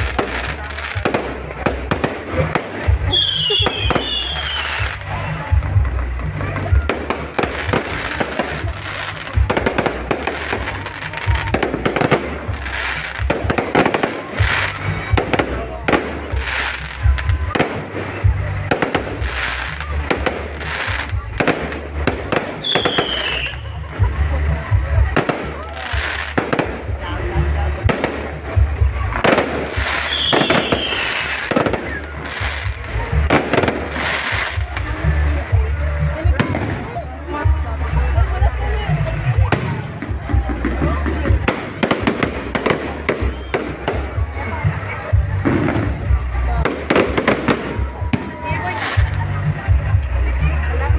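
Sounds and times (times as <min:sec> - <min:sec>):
fireworks bangs and crackles: 0:00.0 - 0:50.9
music playing: 0:00.0 - 0:50.9.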